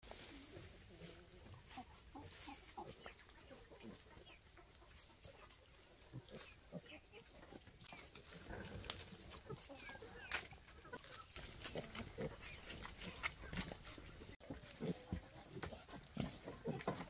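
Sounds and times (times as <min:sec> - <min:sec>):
hens clucking: 0:00.0 - 0:17.0
pigs calling: 0:00.9 - 0:17.0.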